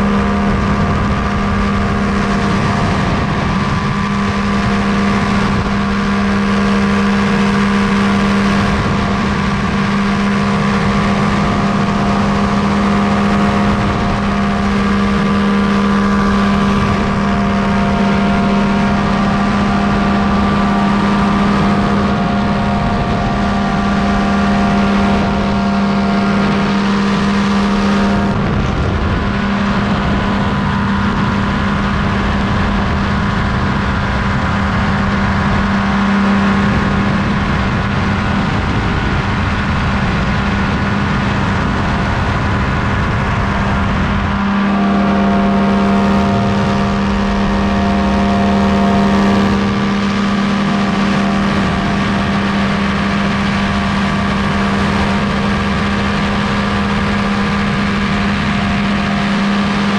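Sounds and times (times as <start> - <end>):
paramotor engine droning: 0.0 - 59.9
wind rushing over microphone: 0.0 - 59.9.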